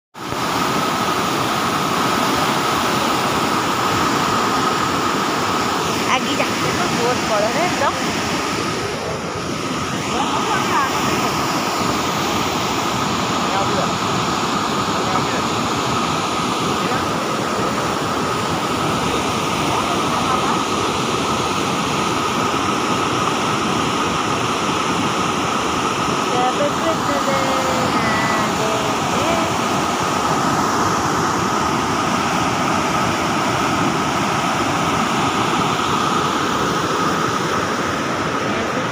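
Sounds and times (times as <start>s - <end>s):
floodwater rushing through dam gate: 0.2s - 38.9s.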